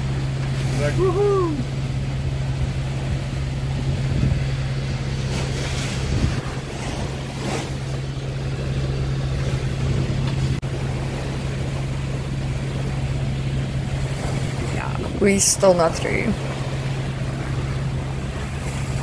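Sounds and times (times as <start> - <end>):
boat engine droning: 0.0 - 19.0
water rushing along hull: 0.0 - 19.0
wave splashes: 0.0 - 19.0
wind: 0.0 - 19.0.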